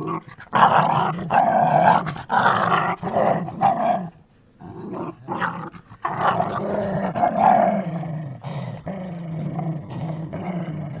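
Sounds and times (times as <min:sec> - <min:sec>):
dog growling: 0:00.0 - 0:11.0.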